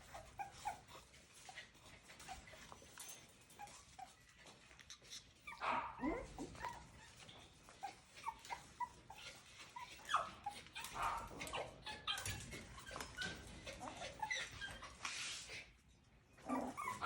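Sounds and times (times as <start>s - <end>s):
puppies yipping and whimpering: 0.0s - 15.8s, 16.4s - 17.0s.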